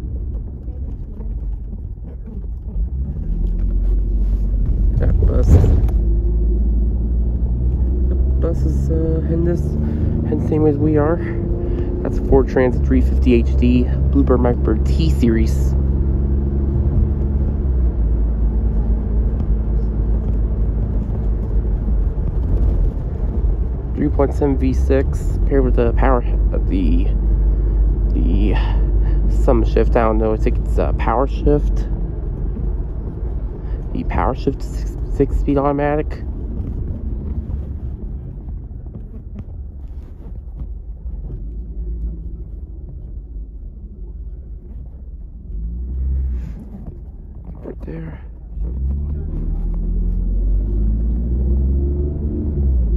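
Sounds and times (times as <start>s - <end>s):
car road rumble inside cabin: 0.0s - 52.9s.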